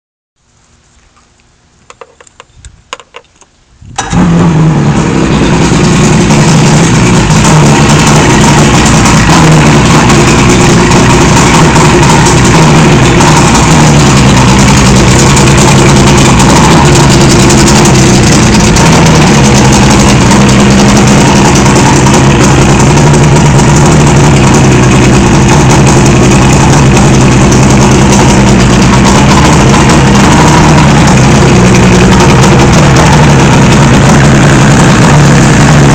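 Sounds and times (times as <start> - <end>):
outboard motor running at idle: 4.0 - 35.9.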